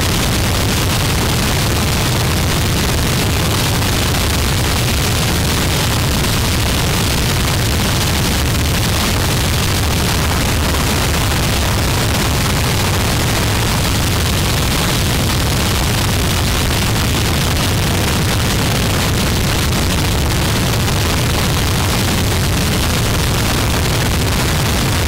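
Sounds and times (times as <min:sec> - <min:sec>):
harsh distorted static noise: 0:00.0 - 0:25.0.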